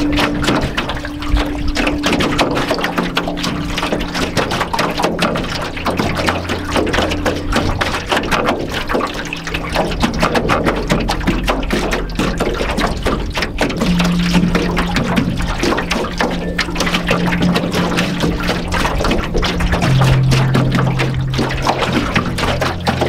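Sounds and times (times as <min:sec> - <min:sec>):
ambient music low notes: 0:00.0 - 0:23.0
waves slapping canoe hull: 0:00.0 - 0:23.0.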